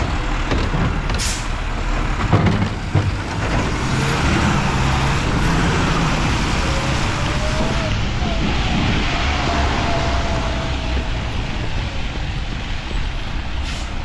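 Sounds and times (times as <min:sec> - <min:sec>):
garbage truck engine running: 0:00.0 - 0:14.0.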